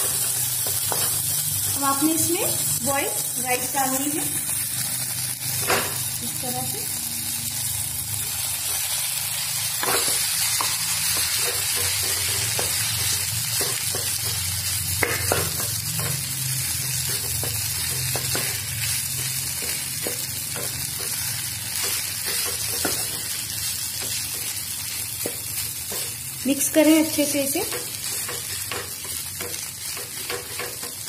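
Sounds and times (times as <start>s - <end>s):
rice sizzling in a pan: 0.0s - 31.0s.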